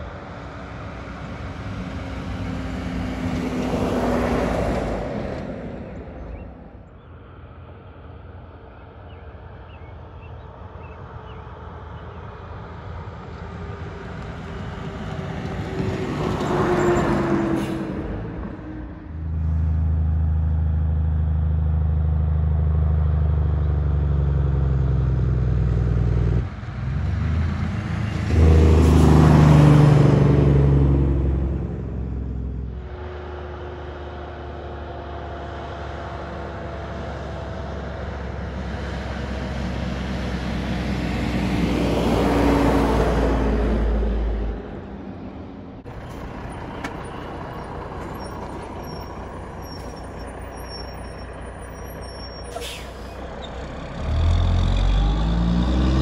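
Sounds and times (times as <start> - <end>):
diesel engine droning: 0.0 - 56.0
trucks passing on highway: 0.0 - 56.0.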